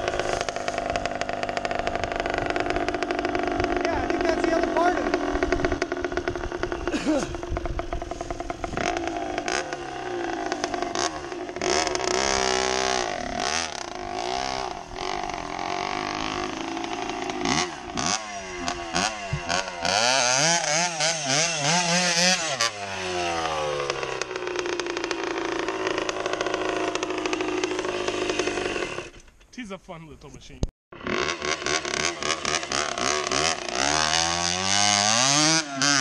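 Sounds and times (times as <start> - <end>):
dirt bike engine revving: 0.0 - 29.2, 30.9 - 36.0
engine clatter: 0.0 - 29.4, 30.9 - 36.0.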